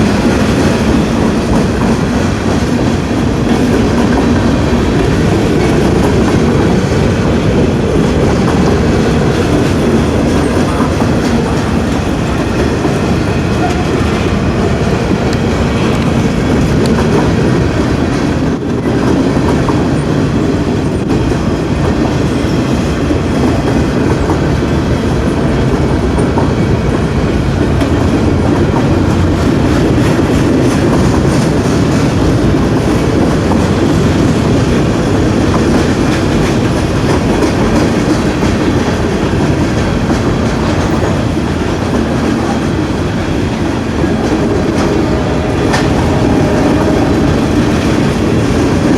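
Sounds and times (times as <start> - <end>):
freight train rumbling past: 0.0 - 48.9
train wheels clacking on rail joints: 0.0 - 48.9.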